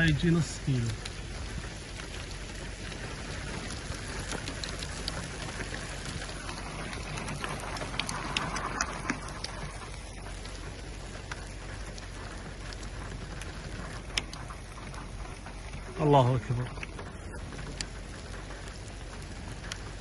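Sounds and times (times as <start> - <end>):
rain falling steadily: 0.0 - 20.0
sharp raindrops hitting close by: 0.0 - 20.0.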